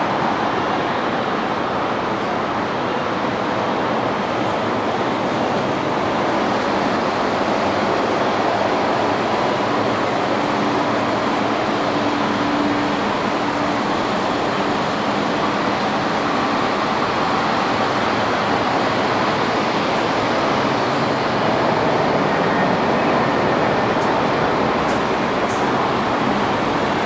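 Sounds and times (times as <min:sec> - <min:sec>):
jet engines droning: 0:00.0 - 0:27.0.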